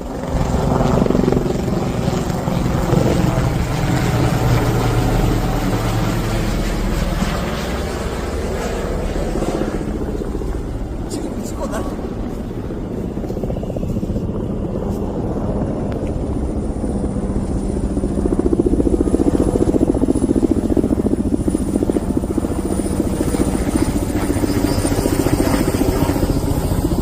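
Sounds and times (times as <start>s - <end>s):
helicopter rotor chopping: 0.0s - 27.0s.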